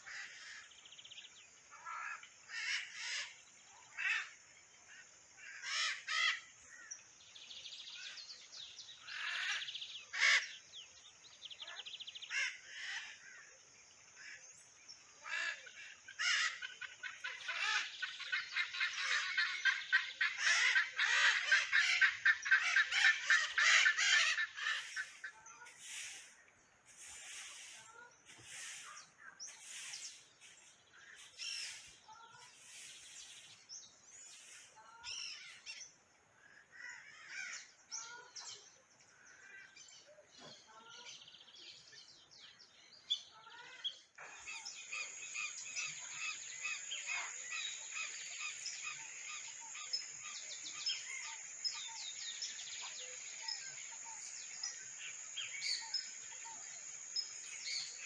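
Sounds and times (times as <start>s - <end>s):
birds calling and chirping: 0.0s - 58.0s.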